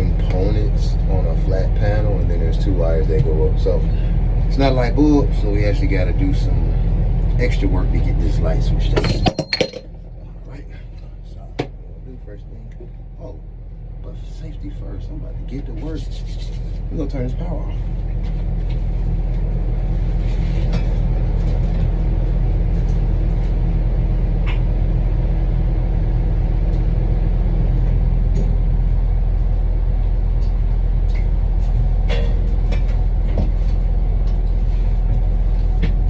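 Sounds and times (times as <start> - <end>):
low machine rumble: 0.0 - 36.0.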